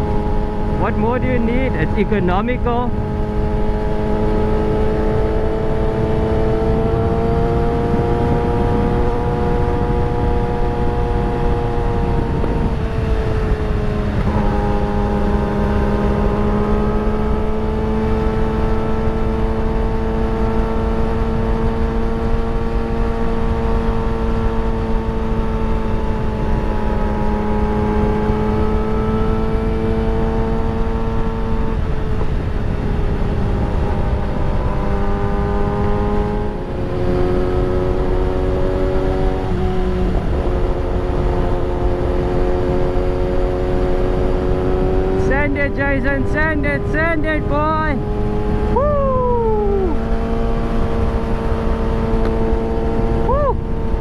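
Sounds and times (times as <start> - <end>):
vehicle engine cruising: 0.0 - 54.0
wind and road noise: 0.0 - 54.0.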